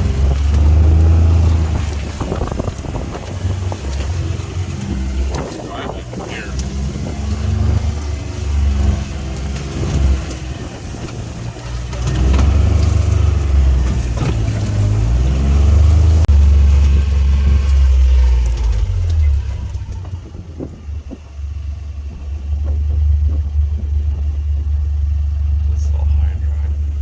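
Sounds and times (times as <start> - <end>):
utility vehicle engine revving: 0.0 - 27.0.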